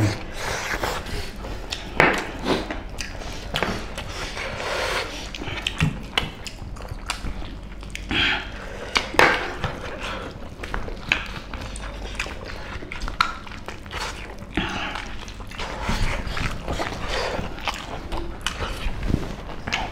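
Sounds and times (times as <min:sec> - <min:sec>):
chewing and mouth noises: 0:00.0 - 0:19.9.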